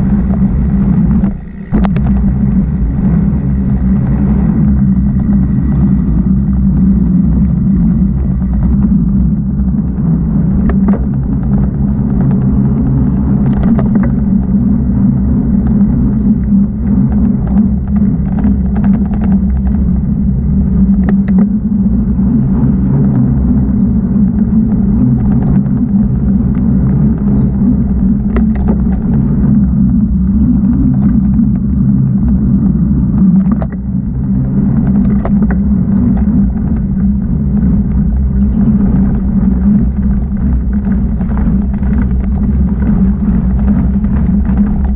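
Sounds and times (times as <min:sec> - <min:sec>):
bike clicking and rattling: 0:00.0 - 0:44.9
low rumble on microphone: 0:00.0 - 0:44.9.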